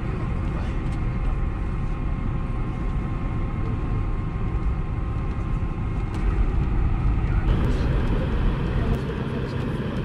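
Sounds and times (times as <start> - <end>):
airframe rolling on taxiway: 0.0 - 10.0
airliner engines idling low rumble: 0.0 - 10.0
faint steady whine: 0.0 - 10.0.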